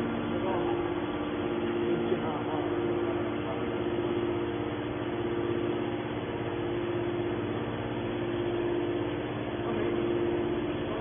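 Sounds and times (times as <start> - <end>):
hydraulic machine hum: 0.0 - 11.0.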